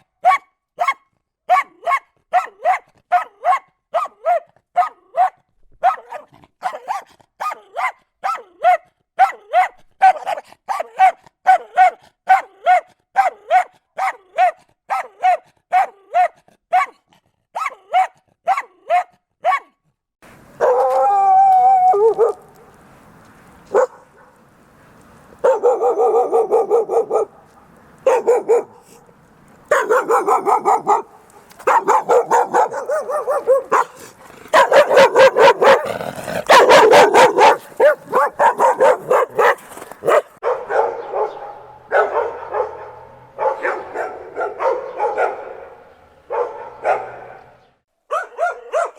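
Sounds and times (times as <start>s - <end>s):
dogs barking angrily: 0.0s - 19.7s, 20.6s - 21.2s, 22.0s - 22.7s, 23.7s - 48.9s.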